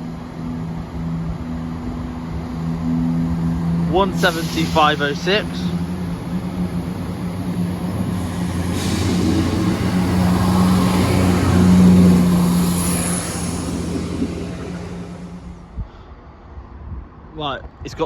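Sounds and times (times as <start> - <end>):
diesel train engines humming: 0.0 - 16.4.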